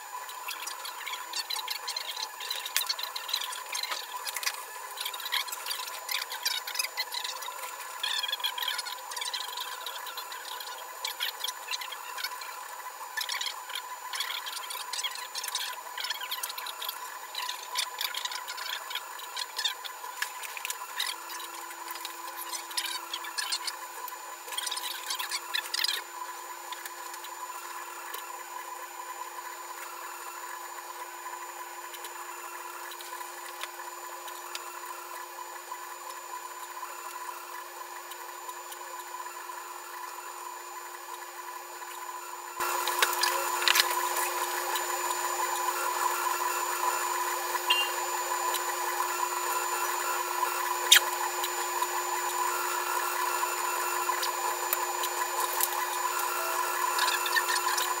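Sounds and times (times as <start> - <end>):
printer motors and fan whining: 0.0 - 58.0.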